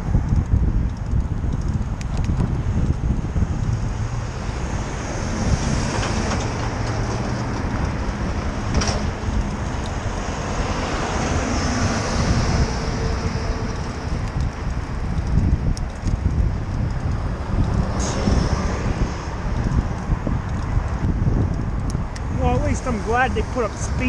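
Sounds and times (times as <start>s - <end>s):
road traffic noise: 0.0s - 24.0s
wind rushing over microphone: 0.0s - 24.0s.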